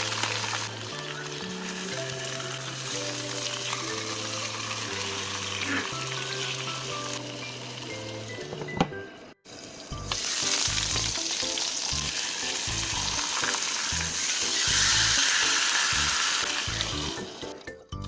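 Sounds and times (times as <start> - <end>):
fish sizzling in a hot pan: 0.0 - 7.9, 9.5 - 17.4.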